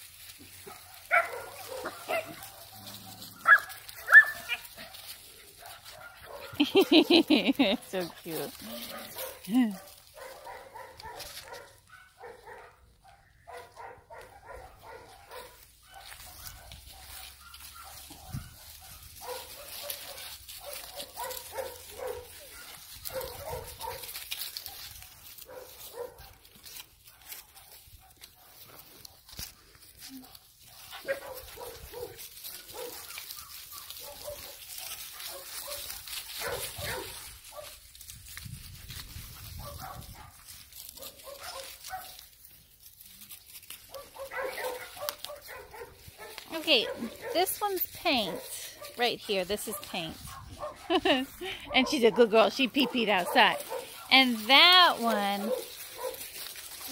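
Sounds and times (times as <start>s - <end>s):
dogs barking: 0.6s - 7.3s, 8.6s - 26.4s, 30.2s - 37.8s, 39.4s - 42.2s, 43.8s - 56.9s.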